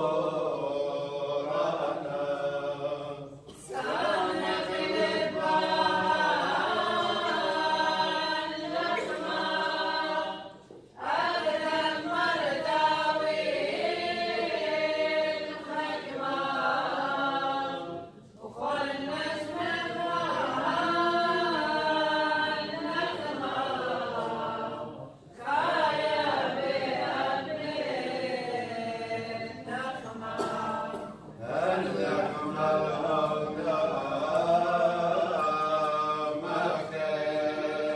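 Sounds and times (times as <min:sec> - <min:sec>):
choir chanting a cappella: 0:00.0 - 0:37.9.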